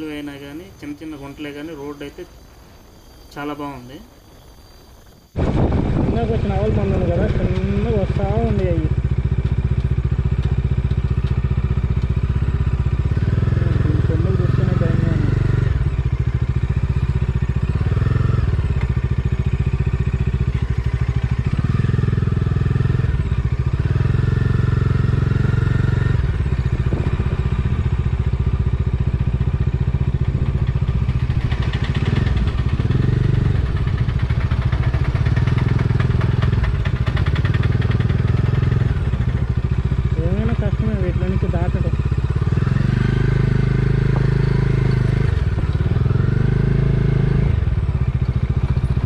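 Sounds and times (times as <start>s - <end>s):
motorcycle engine rumbling: 0.0s - 49.0s.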